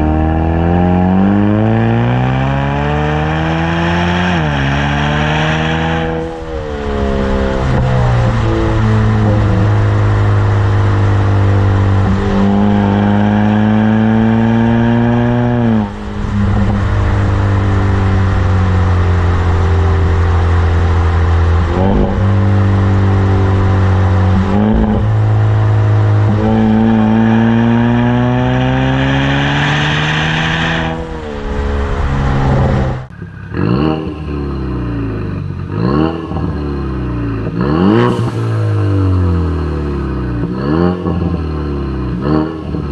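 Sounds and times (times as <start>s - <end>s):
car engine accelerating: 0.0s - 42.9s
engine rev blips: 0.0s - 42.9s.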